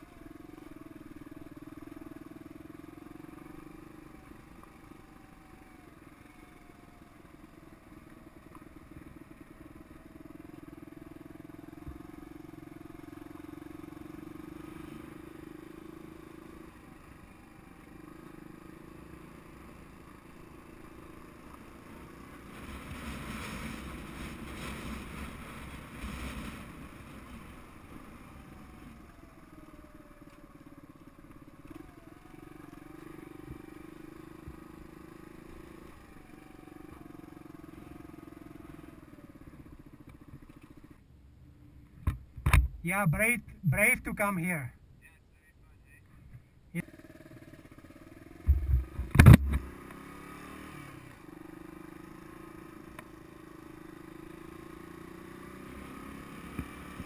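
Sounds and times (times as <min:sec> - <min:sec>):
dirt bike engine running: 0:00.0 - 0:41.1, 0:46.7 - 0:57.0.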